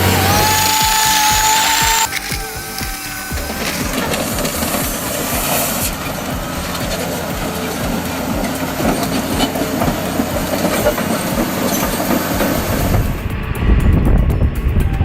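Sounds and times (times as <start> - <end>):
repeating mechanical clatter: 0.0 - 14.8
heavy tracked machinery running: 0.0 - 15.0
loud low rumble: 0.0 - 15.0.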